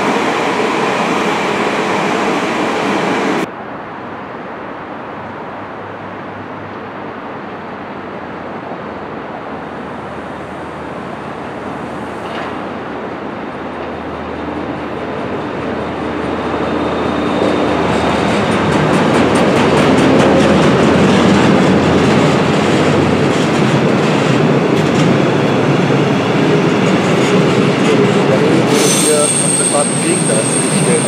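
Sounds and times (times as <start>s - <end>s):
diesel locomotive passing: 0.0s - 3.5s, 6.3s - 31.0s.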